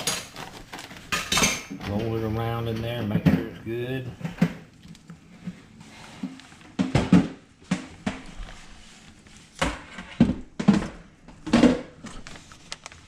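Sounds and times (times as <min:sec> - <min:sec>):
knocks and rustles handling fish: 0:00.0 - 0:12.2.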